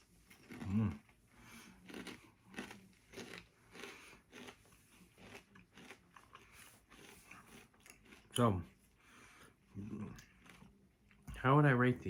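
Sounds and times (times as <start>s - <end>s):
person chewing potato chips: 0.0s - 11.2s.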